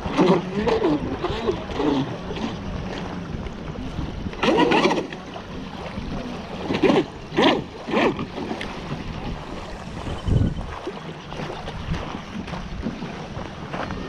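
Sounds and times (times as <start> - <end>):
propeller churning water: 0.0 - 14.0.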